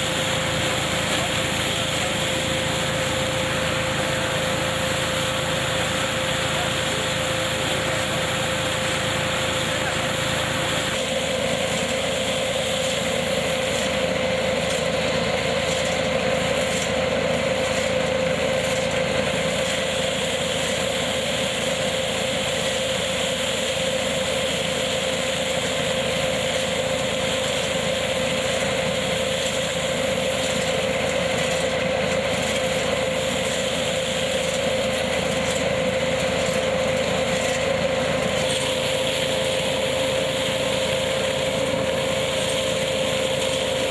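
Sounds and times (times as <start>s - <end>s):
harvesting machine running: 0.0s - 43.9s.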